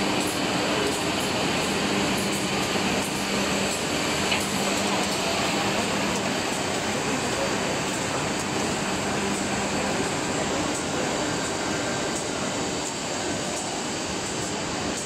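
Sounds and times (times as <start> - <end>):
cnc router running: 0.0 - 15.0.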